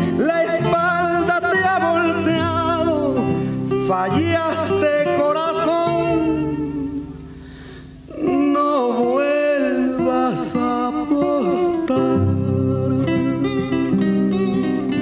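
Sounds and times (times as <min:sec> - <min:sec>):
person singing: 0:00.0 - 0:07.4, 0:08.0 - 0:15.0
guitar accompaniment: 0:00.0 - 0:15.0.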